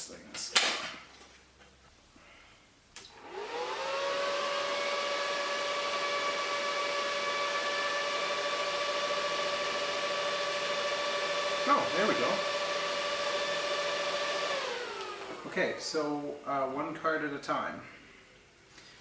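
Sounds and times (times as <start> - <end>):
cooling fans whining: 3.0 - 18.6.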